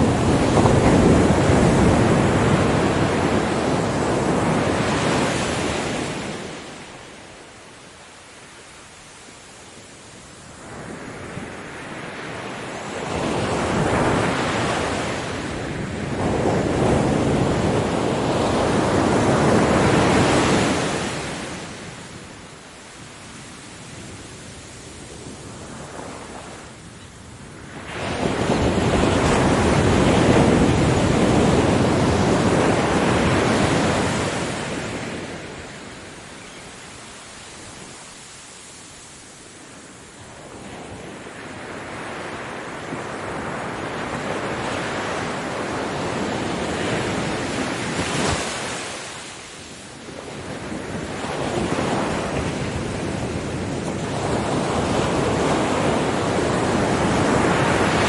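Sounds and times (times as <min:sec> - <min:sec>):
ocean waves breaking: 0:00.0 - 0:07.6, 0:10.0 - 0:26.8, 0:27.4 - 0:58.0.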